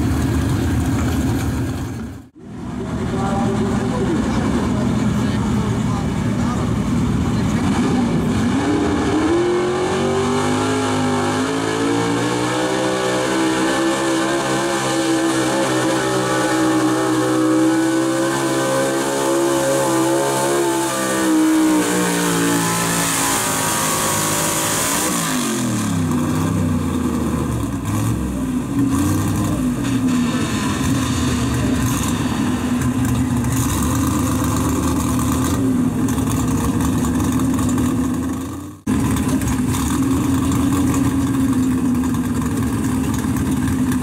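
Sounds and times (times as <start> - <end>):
truck engine revving under load: 0.0 - 44.0.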